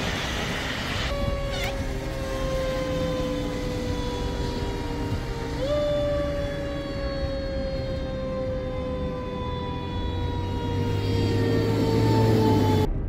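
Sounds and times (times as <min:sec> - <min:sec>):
fire engine siren wailing: 0:00.0 - 0:13.0
low traffic rumble: 0:00.0 - 0:13.0
weather noise: 0:00.0 - 0:13.0.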